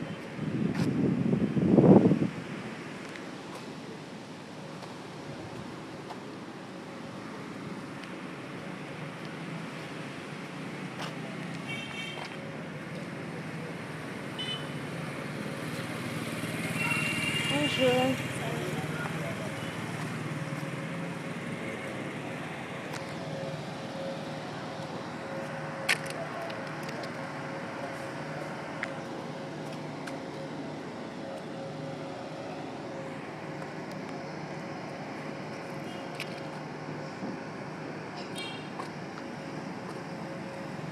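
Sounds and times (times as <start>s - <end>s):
engine hum: 0.0s - 40.9s
road noise: 0.0s - 40.9s.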